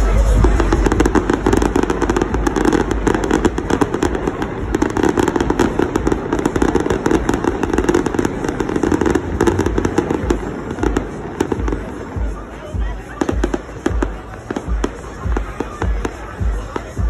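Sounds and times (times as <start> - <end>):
fireworks pops and crackles: 0.0 - 17.0
deep fireworks booms: 0.2 - 16.9.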